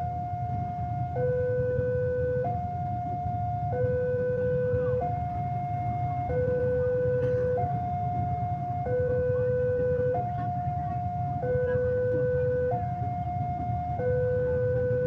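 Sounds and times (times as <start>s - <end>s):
level crossing two-tone alarm: 0.0s - 15.0s
low steady rumble: 0.0s - 15.0s.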